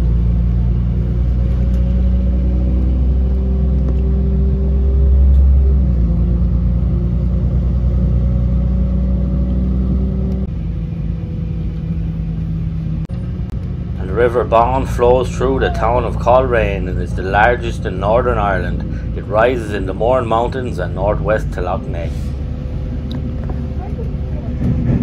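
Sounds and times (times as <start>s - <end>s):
diesel train engine drone: 0.0s - 25.0s.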